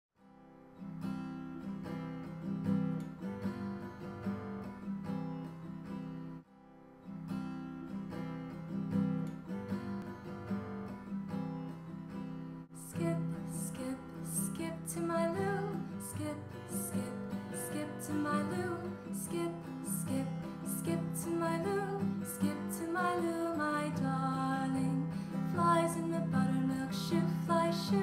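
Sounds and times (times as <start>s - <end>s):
acoustic guitar strumming: 0.2s - 28.0s.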